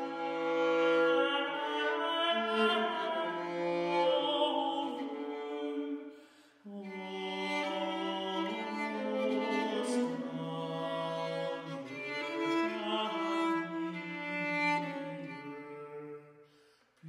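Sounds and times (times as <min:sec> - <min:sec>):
bowed vielle: 0:00.0 - 0:06.1, 0:06.8 - 0:16.3
tenor voice singing: 0:00.0 - 0:06.1, 0:06.7 - 0:16.1.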